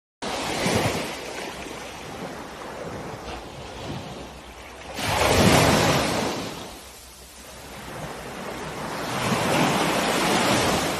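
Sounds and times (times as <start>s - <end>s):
ocean surf washing onto beach: 0.2s - 10.9s.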